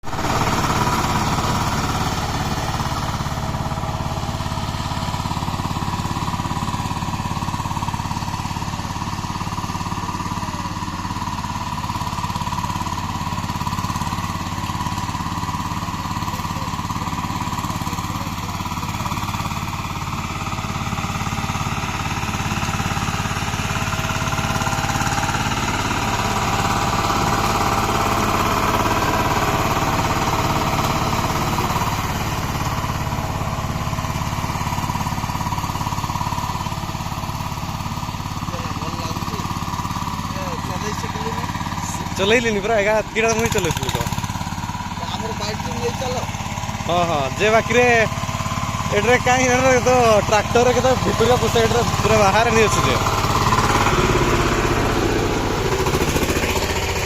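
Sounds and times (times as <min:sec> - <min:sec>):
tiller engine knocking: 0:00.0 - 0:57.0.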